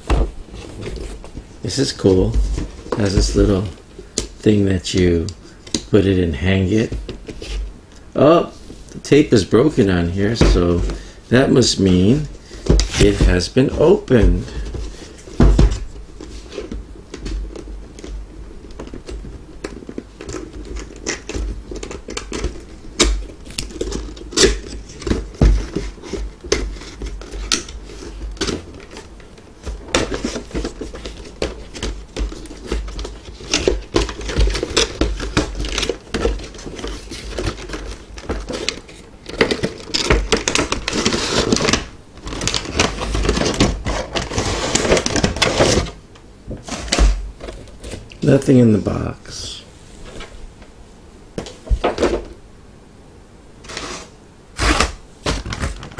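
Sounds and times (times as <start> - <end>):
packaging rustling and crinkling: 0.0 - 48.4, 53.6 - 55.9.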